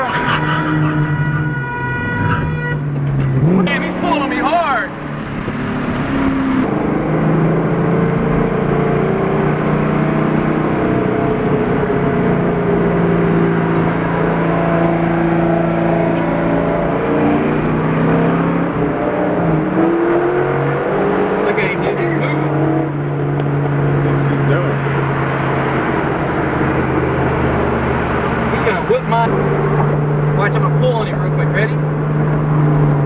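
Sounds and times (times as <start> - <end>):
car engine at high revs: 0.0 - 33.0
road noise: 0.0 - 33.0.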